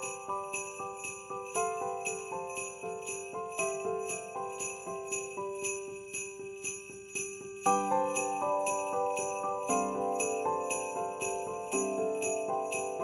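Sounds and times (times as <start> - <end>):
sleigh bells on a beat: 0.0 - 13.0.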